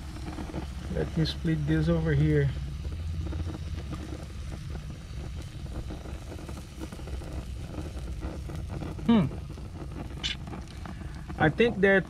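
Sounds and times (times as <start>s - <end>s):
fire crackling and fish sizzling: 0.0s - 12.0s
steady low rumble: 0.0s - 12.0s.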